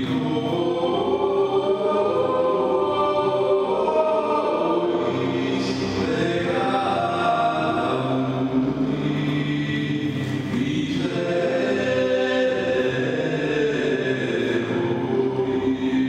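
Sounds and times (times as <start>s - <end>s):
voices chanting in unison: 0.0s - 16.0s.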